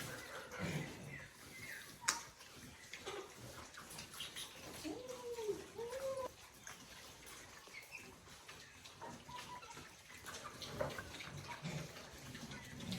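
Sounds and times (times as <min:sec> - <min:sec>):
chicken clucking: 0:00.0 - 0:12.9.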